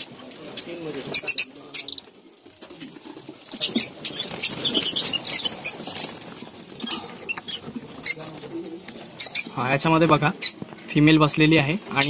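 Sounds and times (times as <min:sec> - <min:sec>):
lovebirds chirping: 0:00.0 - 0:02.3, 0:03.4 - 0:12.0.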